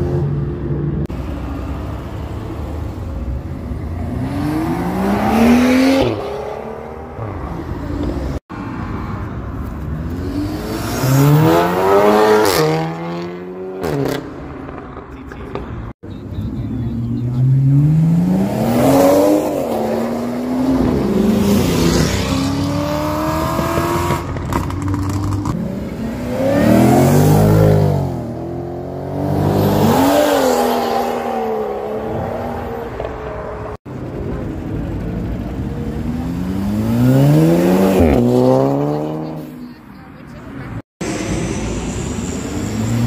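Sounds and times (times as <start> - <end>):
car engines accelerating hard: 0.0 - 8.4, 9.8 - 43.0.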